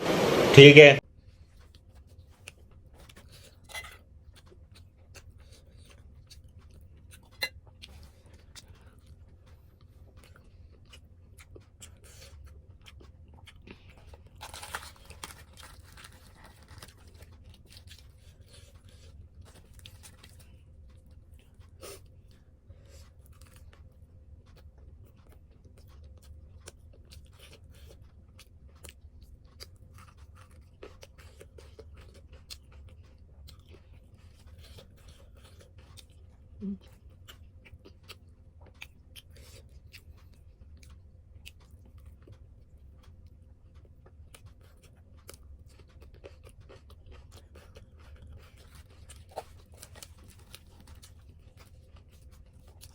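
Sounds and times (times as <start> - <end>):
person chewing: 1.6 - 52.9.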